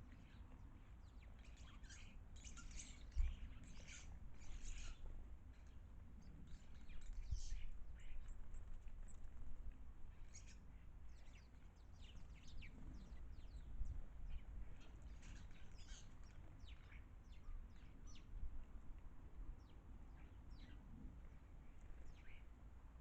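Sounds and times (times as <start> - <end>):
faint low background rumble: 0.0 - 23.0
small birds chirping: 0.0 - 23.0.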